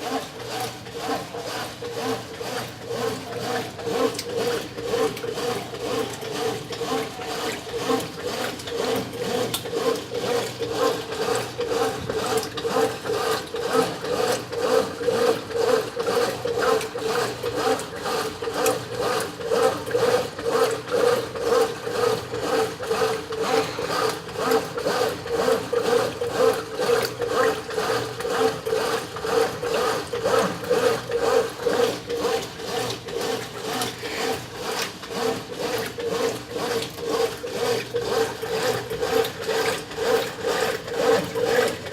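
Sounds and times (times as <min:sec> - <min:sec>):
washing machine agitating: 0:00.0 - 0:41.9.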